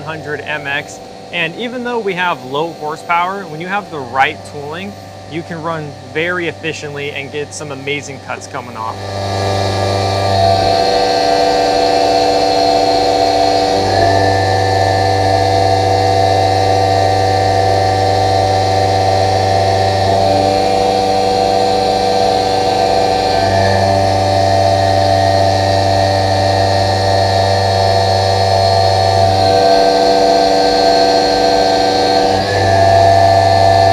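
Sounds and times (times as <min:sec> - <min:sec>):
mill machining whine: 0:00.0 - 0:33.9.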